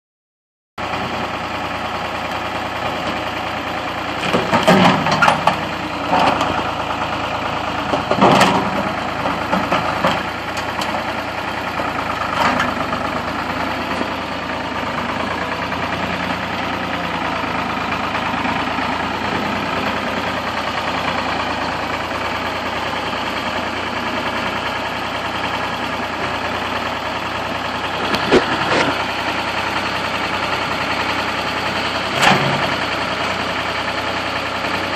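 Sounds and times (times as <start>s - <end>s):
machine engine running: 0.8s - 34.9s.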